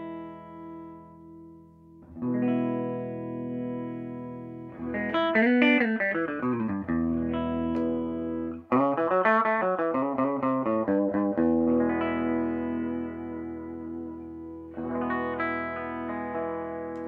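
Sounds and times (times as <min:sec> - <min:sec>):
electric guitar notes and chords: 0:00.0 - 0:17.0.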